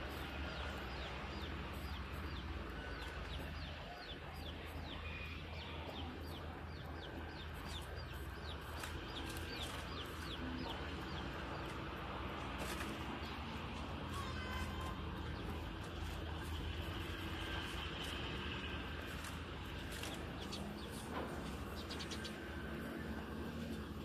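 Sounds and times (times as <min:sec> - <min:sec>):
bird chirping: 0:00.0 - 0:24.0
diesel engine rumble: 0:00.0 - 0:24.0.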